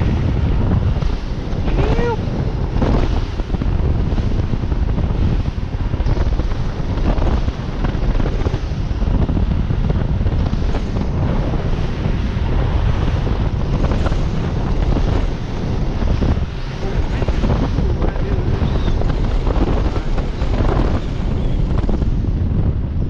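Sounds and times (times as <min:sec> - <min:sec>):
water rushing and spraying: 0:00.0 - 0:22.0
wind buffeting microphone: 0:00.0 - 0:23.0.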